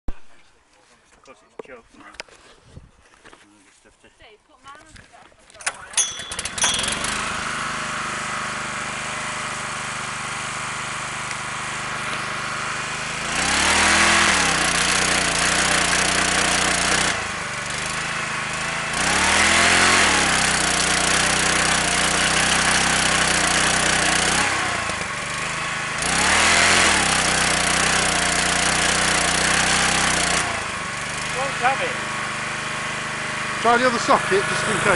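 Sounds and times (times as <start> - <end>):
petrol generator running: 5.7 - 34.9
electric motor whine: 6.1 - 34.9.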